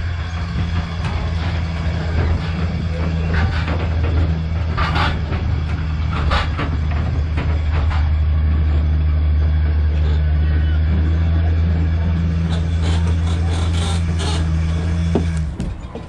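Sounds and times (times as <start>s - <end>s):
tram low drone: 0.0s - 16.0s.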